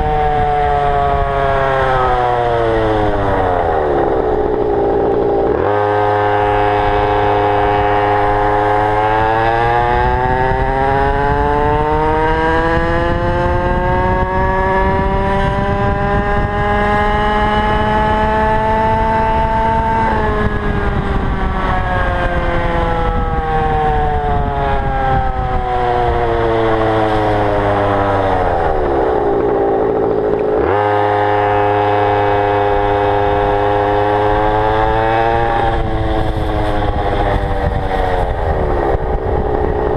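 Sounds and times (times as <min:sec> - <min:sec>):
two-stroke scooter engine revving: 0:00.0 - 0:39.9.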